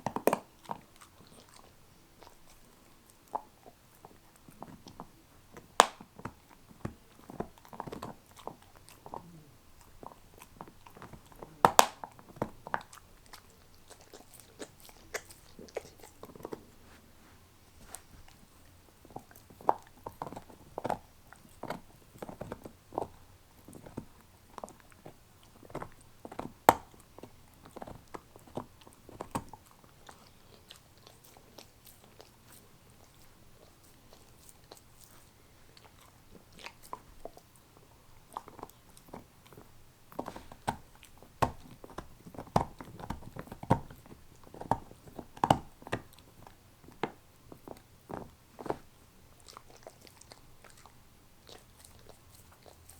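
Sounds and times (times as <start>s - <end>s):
teeth clicking on bone: 0.0s - 16.6s, 18.9s - 52.9s
dog chewing bone: 0.0s - 17.0s, 17.7s - 52.9s.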